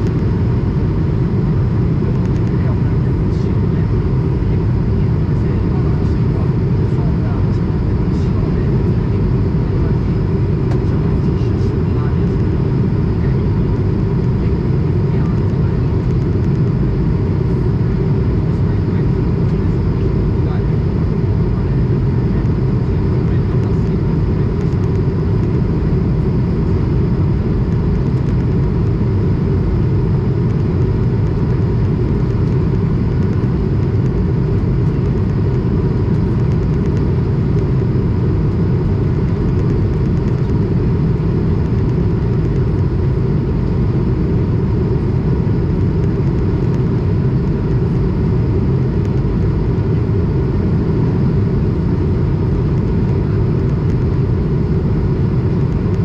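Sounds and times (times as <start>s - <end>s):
airplane cabin airflow rush: 0.0s - 56.0s
faint steady engine whine: 0.0s - 56.0s.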